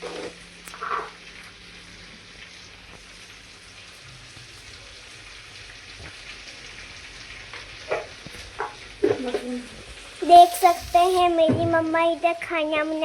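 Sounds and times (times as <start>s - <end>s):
okra sizzling on a pan: 0.0s - 11.4s.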